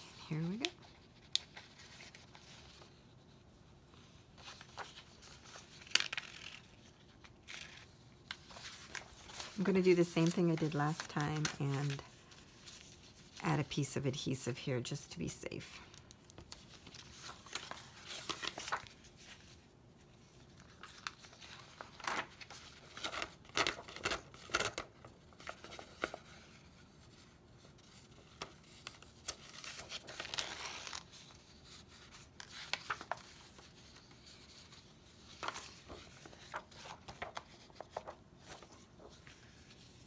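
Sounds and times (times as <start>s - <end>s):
paper rustling and crinkling: 0.0s - 40.0s.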